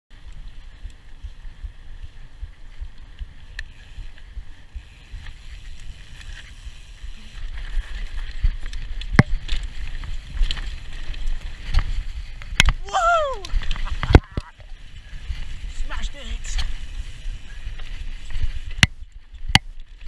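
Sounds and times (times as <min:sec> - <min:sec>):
bike tyre rumble: 0:00.1 - 0:20.0
sharp clacks from bike: 0:00.2 - 0:15.8, 0:16.4 - 0:20.0.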